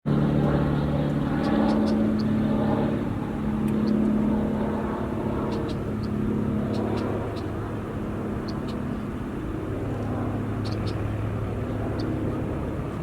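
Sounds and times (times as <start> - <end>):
engine running steadily: 0.1 - 13.0.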